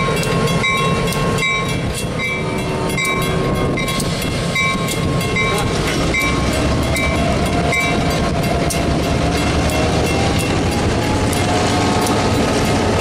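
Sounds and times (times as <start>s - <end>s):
bell ringing: 0.0s - 11.5s
diesel locomotive engines rumbling: 0.0s - 13.0s.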